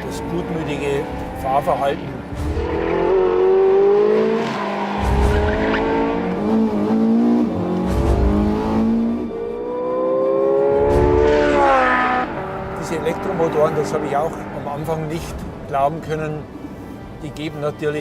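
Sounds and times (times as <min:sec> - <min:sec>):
sports car engine accelerating hard: 0:00.0 - 0:15.1.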